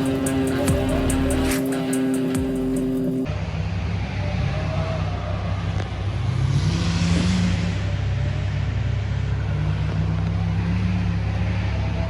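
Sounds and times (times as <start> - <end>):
car engine running under load: 0.0 - 12.0.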